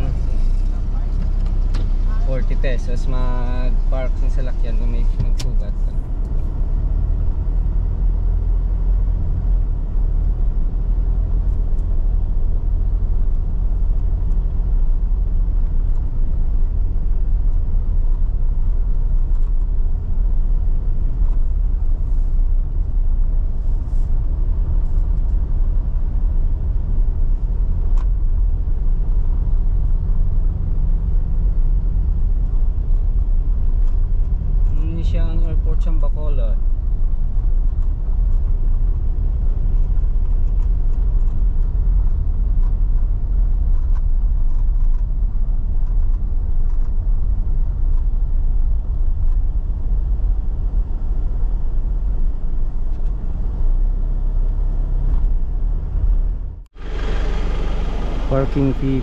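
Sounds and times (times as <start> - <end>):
car engine rumble: 0.0 - 59.0
road noise: 0.0 - 59.0.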